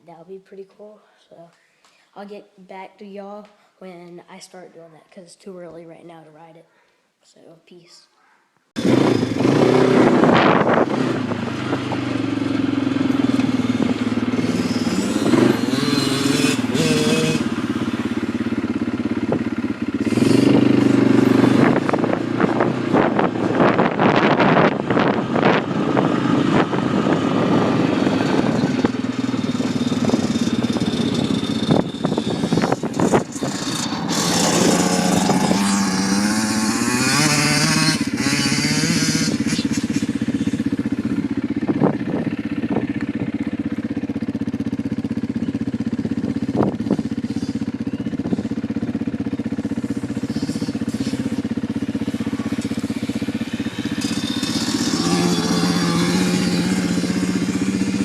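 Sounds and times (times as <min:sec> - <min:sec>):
motorcycle engine revving: 0:08.8 - 0:58.0.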